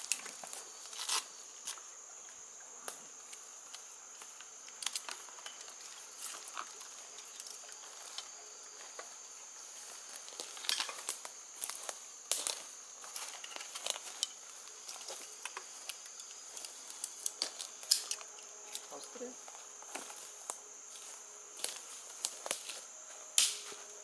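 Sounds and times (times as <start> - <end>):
crackles in dry leaf litter: 0.0 - 24.0
high-pitched insect drone: 0.0 - 24.0.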